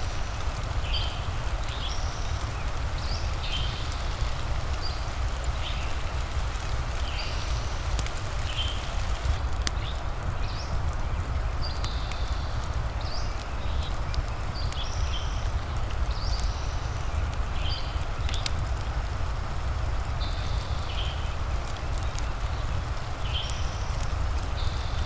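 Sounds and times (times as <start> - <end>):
rain hissing: 0.0 - 25.0
wood fire crackling: 0.0 - 25.0.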